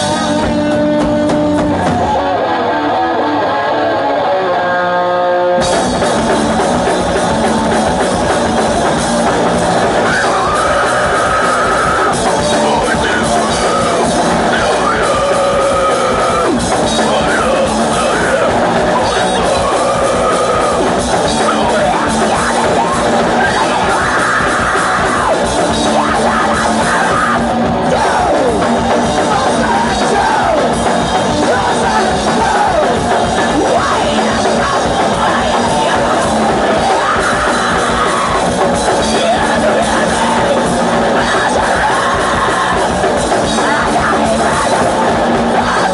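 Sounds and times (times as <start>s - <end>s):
drums: 0.0s - 45.9s
electric guitar: 0.0s - 45.9s.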